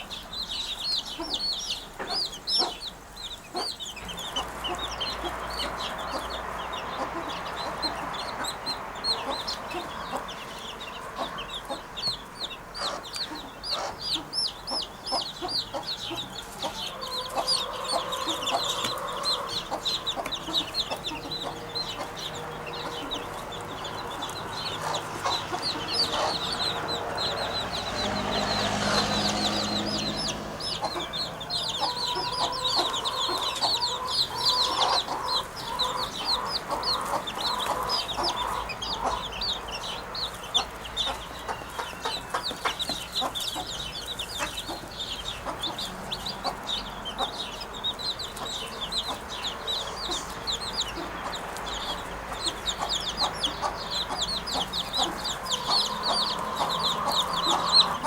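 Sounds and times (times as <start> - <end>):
birds chirping: 0.0 - 58.0
lower bird calls: 0.0 - 58.0.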